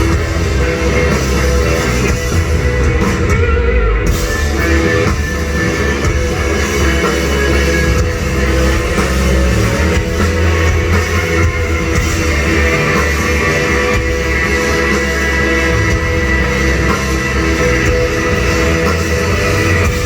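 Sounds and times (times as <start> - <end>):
drum kit: 0.0 - 20.0
electric guitar: 0.0 - 20.0
rock band playing: 0.0 - 20.0.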